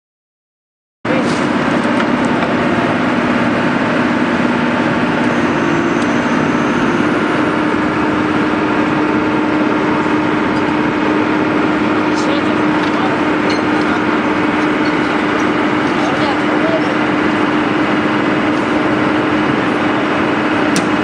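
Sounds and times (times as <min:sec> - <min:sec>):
excavator engine running: 0:01.1 - 0:21.0.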